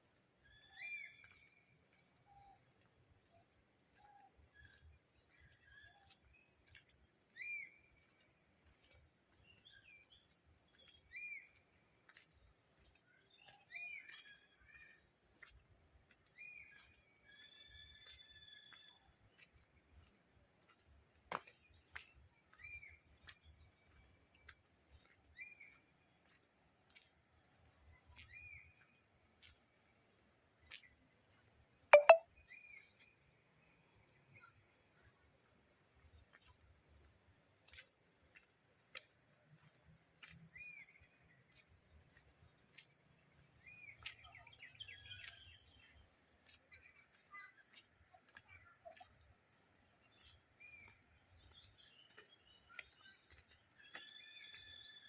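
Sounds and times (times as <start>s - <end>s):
bird chirping: 0.5s - 27.0s, 32.0s - 37.2s, 40.5s - 55.0s.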